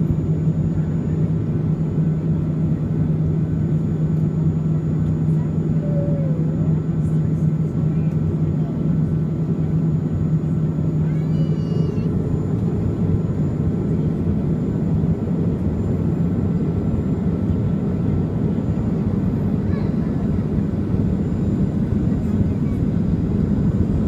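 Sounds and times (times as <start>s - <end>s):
jet engines low rumble: 0.0s - 24.0s.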